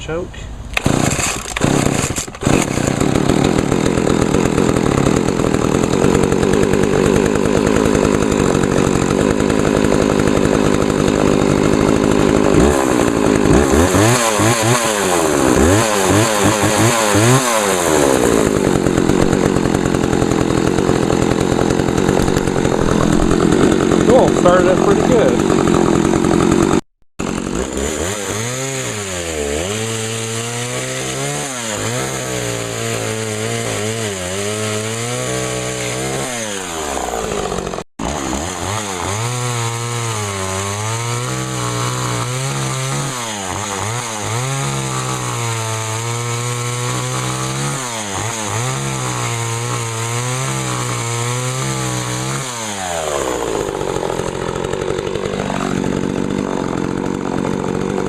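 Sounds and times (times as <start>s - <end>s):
chainsaw cutting wood: 0.7s - 58.0s.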